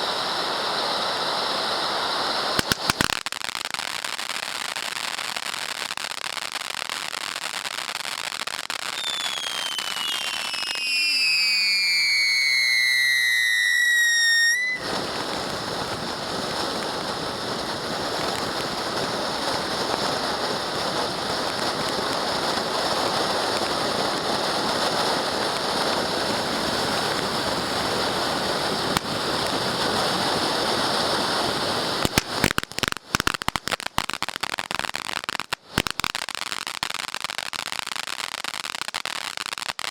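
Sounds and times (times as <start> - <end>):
falling firework whistles: 0.0 - 39.9
firework fountain hissing: 0.0 - 39.9
sharp crackling pops: 1.1 - 30.0, 31.7 - 39.9.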